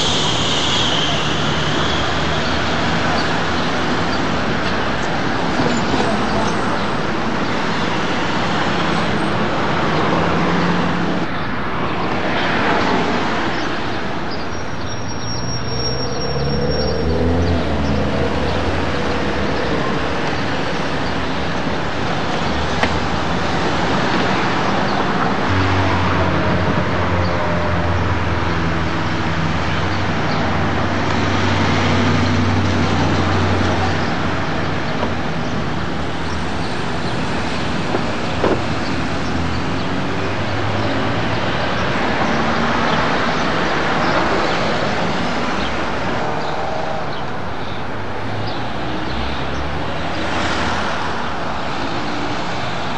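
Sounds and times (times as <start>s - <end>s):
cars passing: 0.0s - 52.9s.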